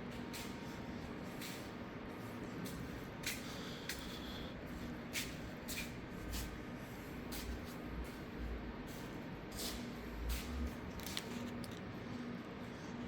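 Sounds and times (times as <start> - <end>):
faint shop hum: 0.0 - 13.0.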